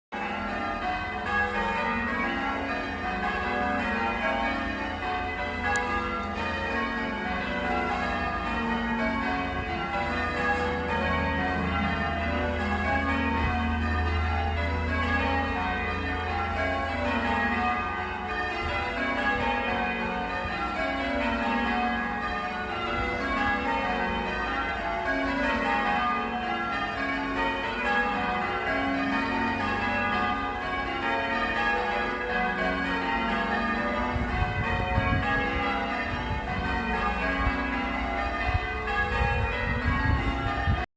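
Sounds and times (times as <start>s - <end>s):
church bells ringing: 0.1s - 40.9s.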